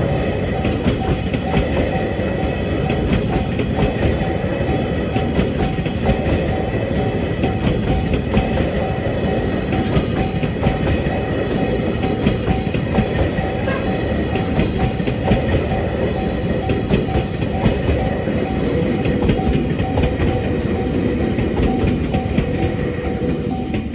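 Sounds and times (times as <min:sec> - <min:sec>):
freight train rumbling past: 0:00.0 - 0:23.9
wheels clicking over rail joints: 0:00.2 - 0:23.9.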